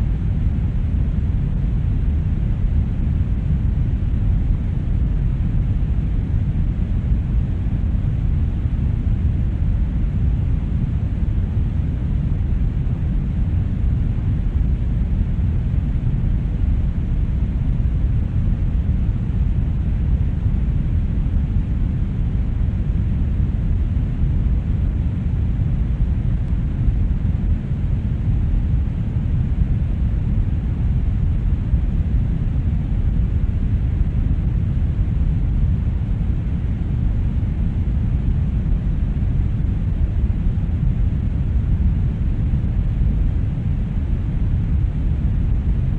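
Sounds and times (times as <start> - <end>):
brown noise rumbling hiss: 0.0 - 45.9.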